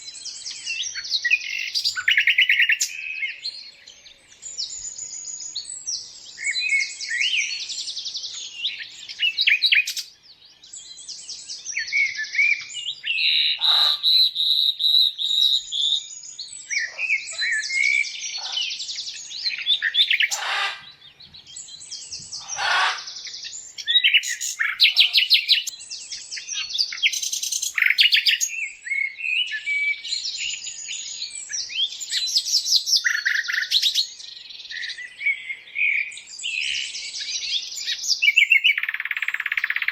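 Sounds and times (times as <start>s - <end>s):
birds chirping and trilling: 0.0s - 39.9s
harsh bird calls: 0.0s - 39.9s.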